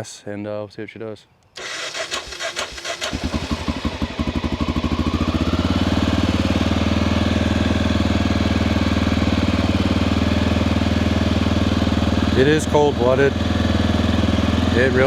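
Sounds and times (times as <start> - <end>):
motorcycle engine starting and idling: 1.6 - 15.0.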